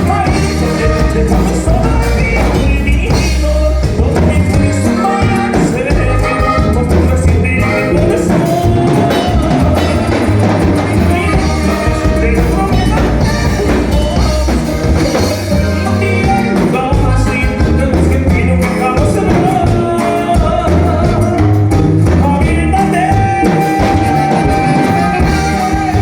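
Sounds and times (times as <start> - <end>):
band music with bass and drums: 0.0 - 26.0.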